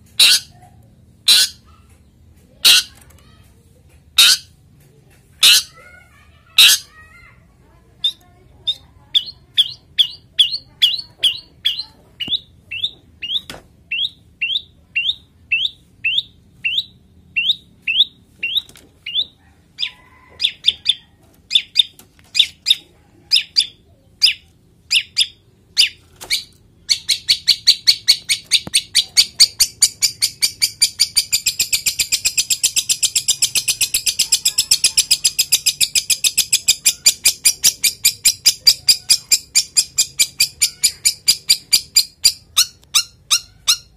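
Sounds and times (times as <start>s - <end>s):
bird harsh rapid chatter: 0.1s - 0.6s, 1.2s - 1.9s, 2.5s - 3.4s, 4.2s - 4.6s, 5.4s - 7.1s, 8.0s - 43.9s.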